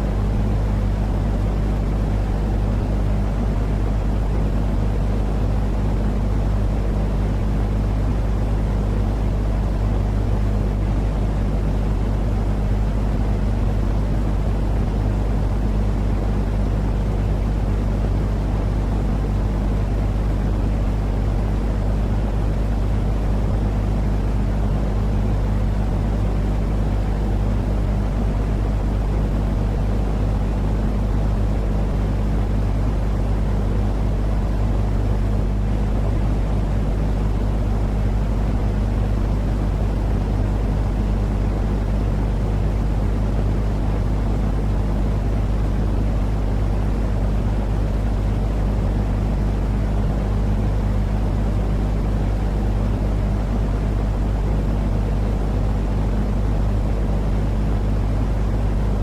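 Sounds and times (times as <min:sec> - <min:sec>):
constant low hum: 0:00.0 - 0:59.0
deep white noise: 0:00.0 - 0:59.0.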